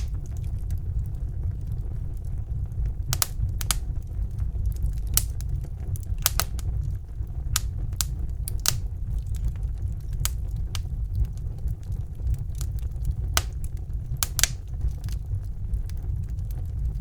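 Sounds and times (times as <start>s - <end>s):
fire rumbling: 0.0s - 17.0s
logs crackling and popping: 0.0s - 17.0s.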